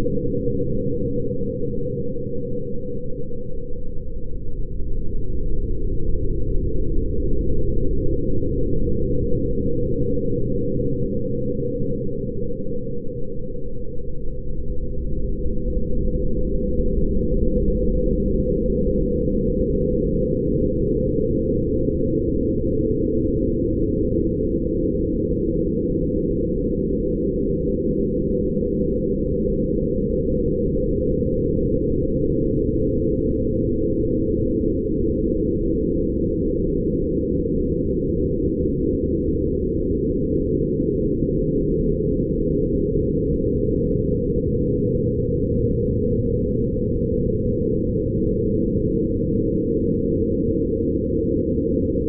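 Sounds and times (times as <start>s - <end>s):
deep humming drone: 0.0s - 52.0s.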